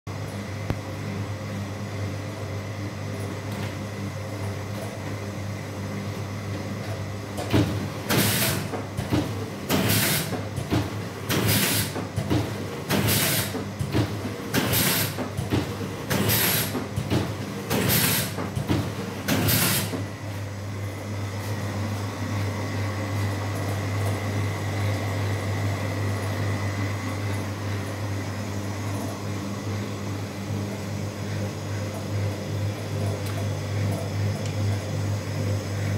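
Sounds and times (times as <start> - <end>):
wrapping machine humming: 0.1 - 35.9.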